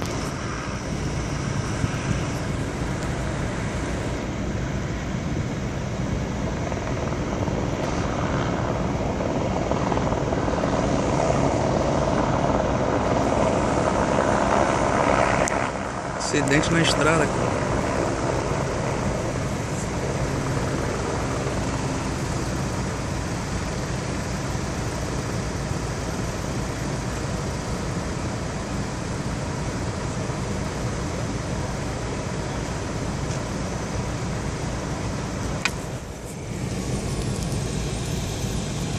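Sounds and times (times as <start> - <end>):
helicopter rotor drone: 0.0 - 38.9.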